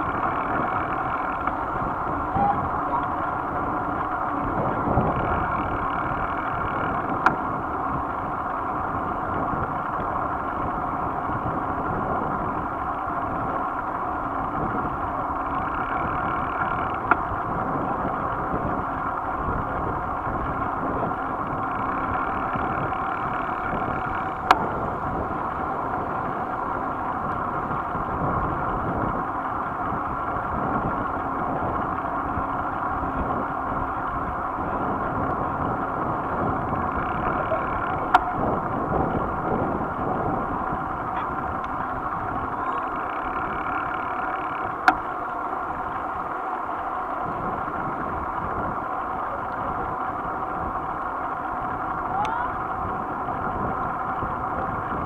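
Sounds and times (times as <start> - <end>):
bicycle rolling on asphalt: 0.0 - 55.0.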